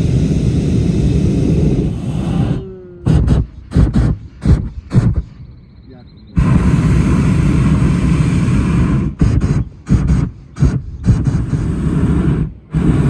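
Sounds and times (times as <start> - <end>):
propane burner blasting: 0.0 - 5.4, 6.3 - 13.0.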